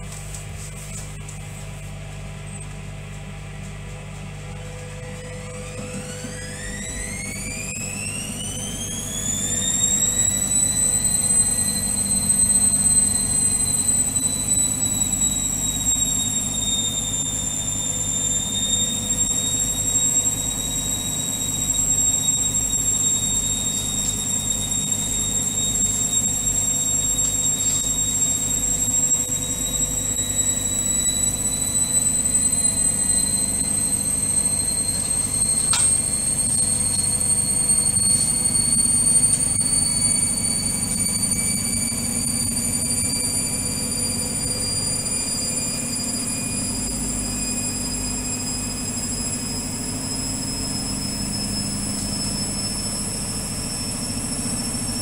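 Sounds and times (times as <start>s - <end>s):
washing machine motor whine: 0.0s - 55.0s.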